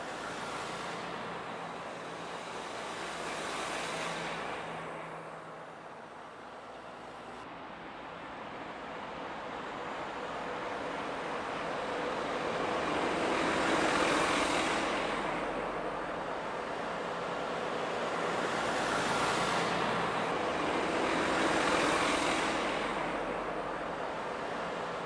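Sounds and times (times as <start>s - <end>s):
road vehicles passing by: 0.0s - 25.0s.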